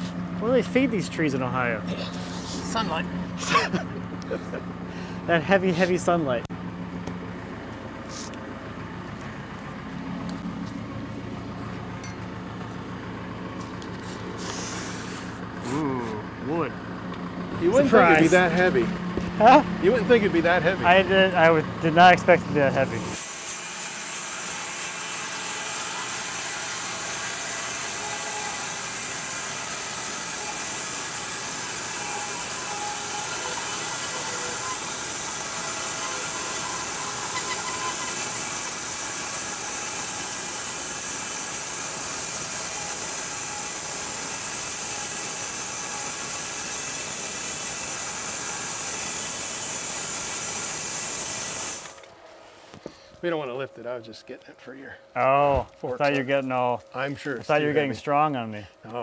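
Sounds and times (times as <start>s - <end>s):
bandsaw mill sawing log: 0.0s - 6.2s, 10.3s - 52.1s.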